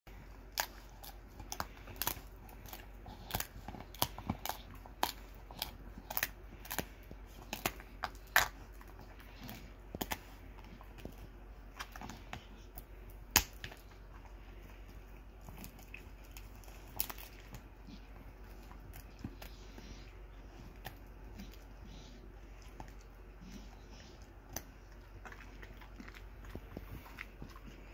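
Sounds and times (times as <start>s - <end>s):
dog crunching chew: 0.1s - 27.9s.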